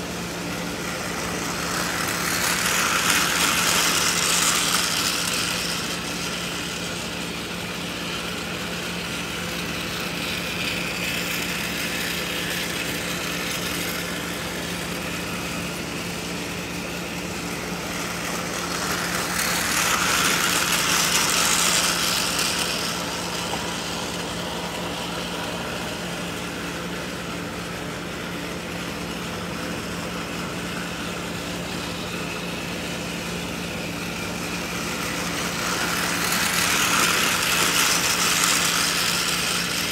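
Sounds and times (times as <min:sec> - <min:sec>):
toy train engines whirring: 0:00.0 - 0:39.9.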